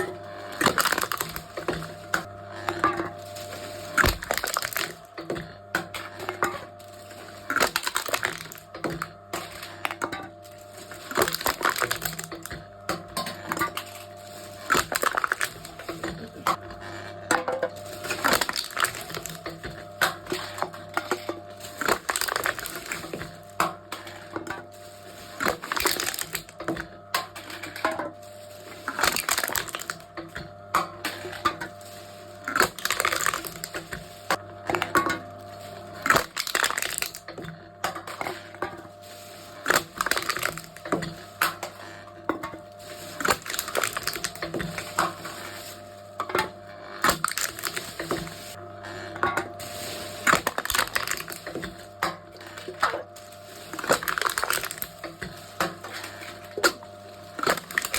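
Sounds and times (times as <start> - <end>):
cans crushed in machine: 0.0 - 57.9
low machine hum: 0.0 - 57.9.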